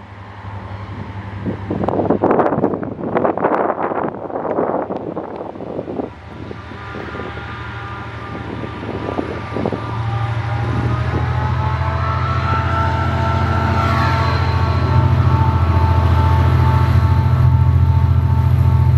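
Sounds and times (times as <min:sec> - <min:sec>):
high steady whine: 0:00.0 - 0:18.9
locomotive engine drone: 0:00.0 - 0:18.9
wind buffeting microphone: 0:00.1 - 0:18.9.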